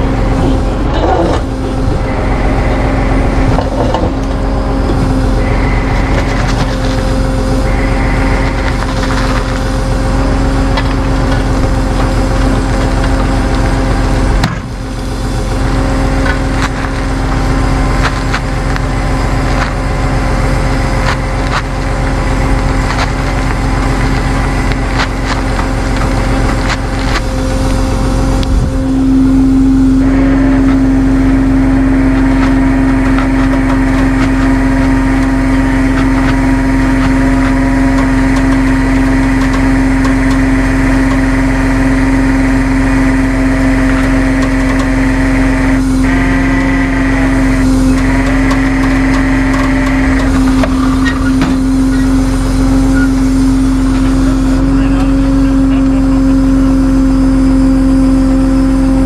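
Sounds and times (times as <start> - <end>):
truck engine hum: 0.0 - 59.0
winch whining: 0.0 - 59.0.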